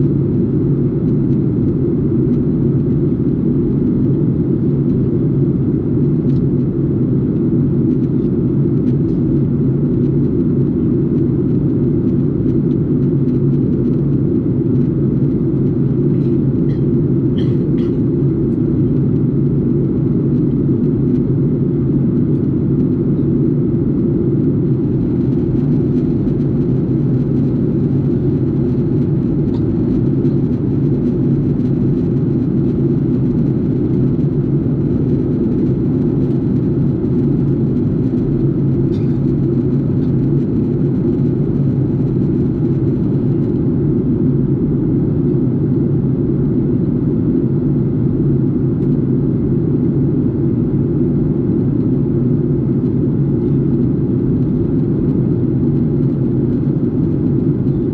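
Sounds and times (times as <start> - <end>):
airliner cabin drone: 0.0 - 57.9.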